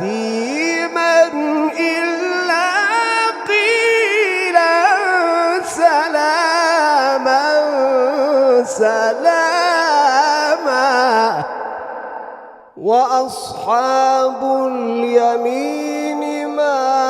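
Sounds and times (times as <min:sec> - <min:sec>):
man chanting recitation: 0:00.0 - 0:11.7, 0:12.7 - 0:17.0.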